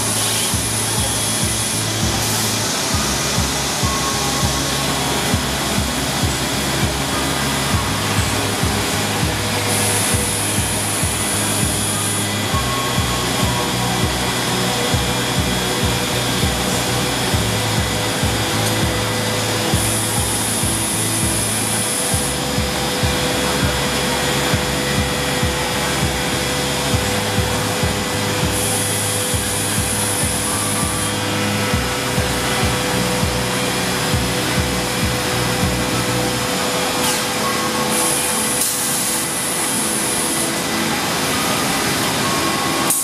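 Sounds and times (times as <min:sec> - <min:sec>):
background music with beat: 0:00.0 - 0:43.0
cnc router machining wood: 0:00.0 - 0:43.0
thin high whine: 0:00.0 - 0:43.0.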